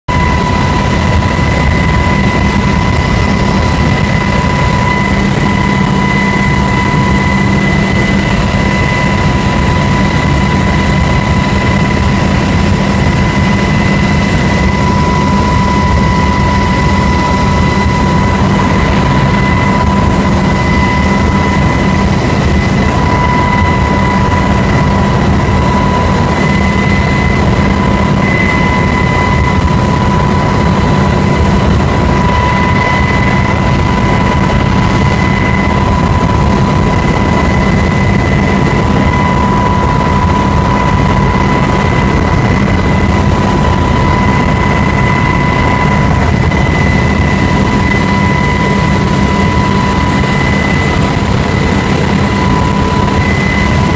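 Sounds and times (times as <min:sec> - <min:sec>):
constant high whine: 0:00.0 - 0:53.9
aircraft engine noise in cabin: 0:00.1 - 0:53.9.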